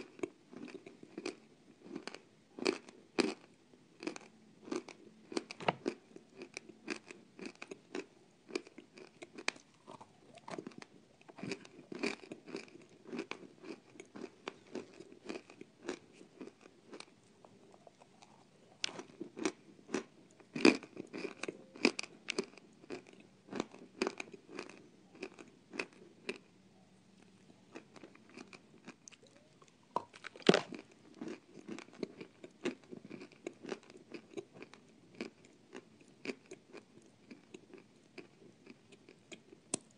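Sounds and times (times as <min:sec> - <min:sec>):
crunchy biting and chewing: 0:00.0 - 0:26.5, 0:27.7 - 0:29.3, 0:30.0 - 0:39.9.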